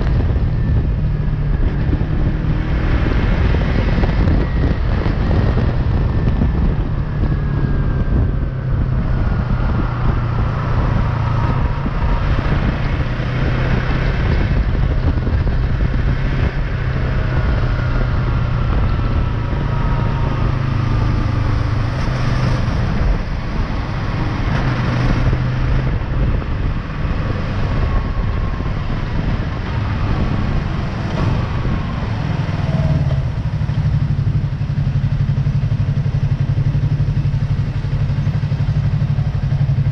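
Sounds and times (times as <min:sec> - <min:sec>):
wind and road noise: 0:00.0 - 0:39.9
motorcycle engine slowing down: 0:03.8 - 0:39.9.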